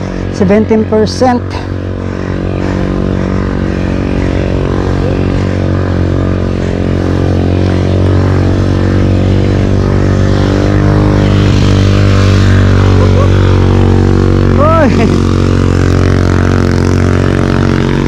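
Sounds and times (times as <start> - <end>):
vehicle engine climbing hill: 0.0 - 18.0.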